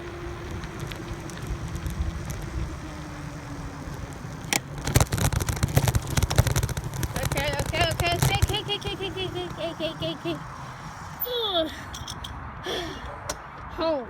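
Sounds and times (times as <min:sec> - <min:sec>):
faint steady hum: 0:00.0 - 0:13.1
wind rumbling on microphone: 0:00.0 - 0:13.7.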